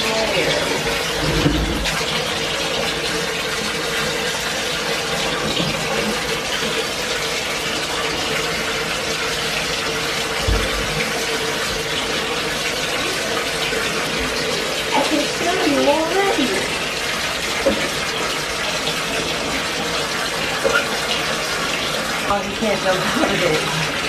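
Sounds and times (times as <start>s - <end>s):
tap water running into bathtub: 0.0s - 24.0s.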